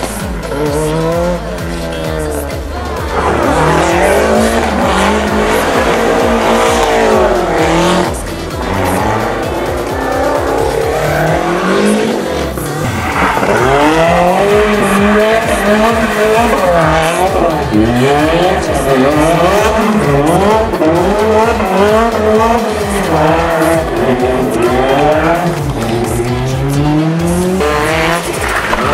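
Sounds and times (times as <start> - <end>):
background music: 0.0 - 28.9
rally car engine revving: 0.0 - 28.9.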